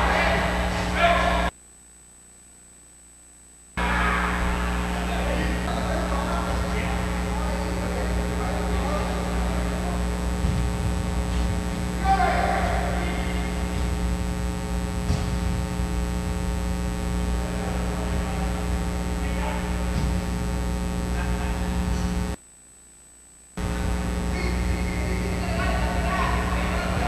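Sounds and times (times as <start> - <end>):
faint arena sound: 0.0 - 1.5, 3.8 - 22.4, 23.6 - 27.0
electrical mains hum: 0.0 - 27.0.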